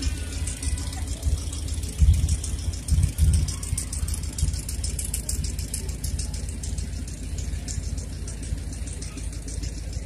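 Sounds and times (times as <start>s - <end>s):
quick clicking rattle: 0.0s - 10.0s
vehicle engine running low: 0.0s - 10.0s.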